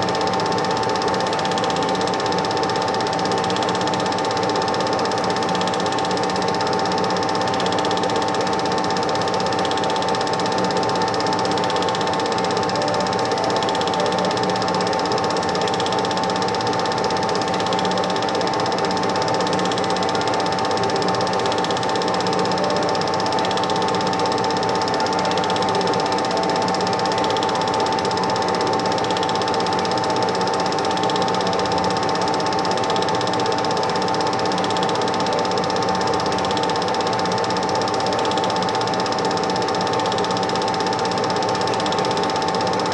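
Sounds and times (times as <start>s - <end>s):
film projector whirr and clatter: 0.0s - 42.9s.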